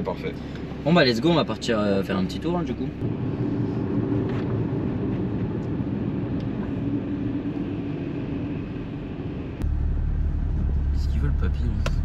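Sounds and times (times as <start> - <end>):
car engine low hum: 0.0 - 12.0
faint road noise: 0.0 - 12.0.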